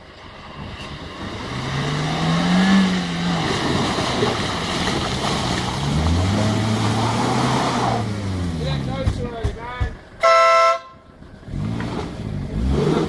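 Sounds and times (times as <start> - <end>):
off-road engine revving: 0.2 - 13.0.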